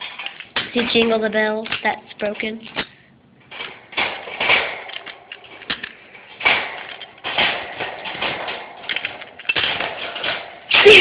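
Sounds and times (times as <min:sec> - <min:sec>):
birdcage rattling and scuffling: 0:00.0 - 0:02.8, 0:03.4 - 0:11.0.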